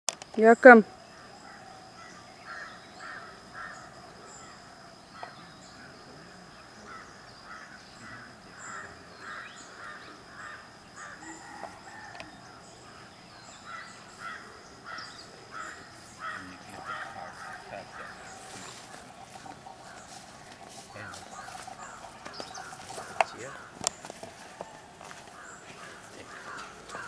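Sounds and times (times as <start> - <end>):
small birds chirping: 0.3 - 27.0
crows cawing: 1.1 - 5.4, 6.8 - 27.0.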